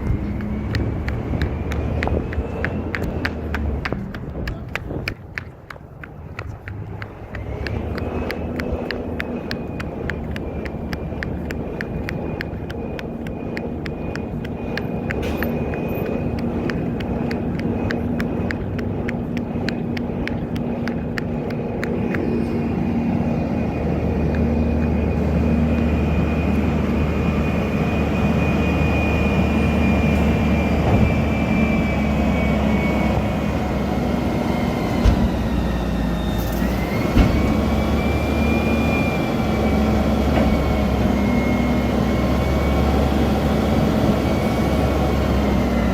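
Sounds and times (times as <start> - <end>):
truck engine whining: 0.0 - 45.9.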